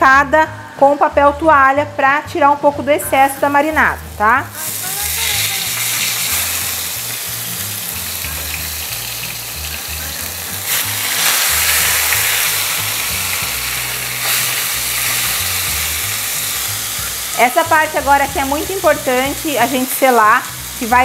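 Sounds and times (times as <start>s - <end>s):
meat sizzling in a frying pan: 3.1s - 21.0s.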